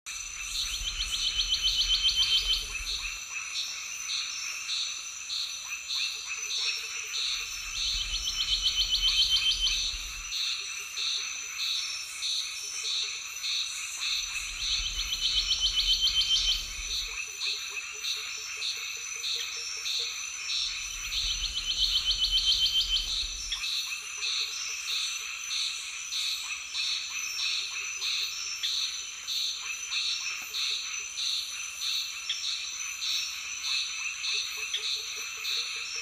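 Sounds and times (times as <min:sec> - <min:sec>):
high insect whine: 0:00.1 - 0:34.5
rapid pulsing frog calls: 0:00.1 - 0:36.0.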